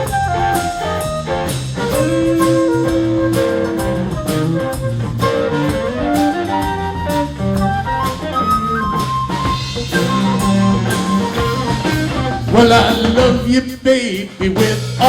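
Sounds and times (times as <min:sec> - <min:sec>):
instrumental solo: 0:00.0 - 0:13.5
bass: 0:00.0 - 0:15.0
drums: 0:00.0 - 0:15.0.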